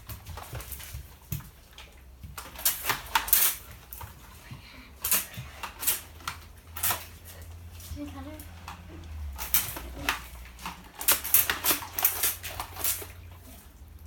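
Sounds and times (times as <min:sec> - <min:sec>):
water guns squirting: 0:00.0 - 0:14.0.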